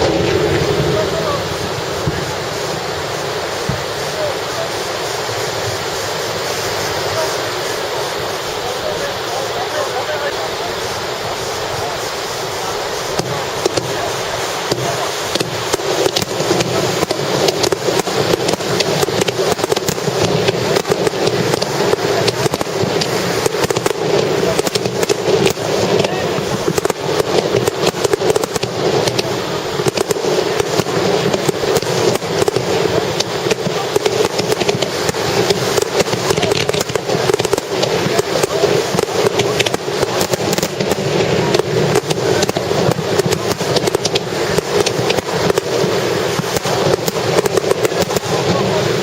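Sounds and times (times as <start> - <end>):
fireworks popping and crackling: 0.0 - 49.0.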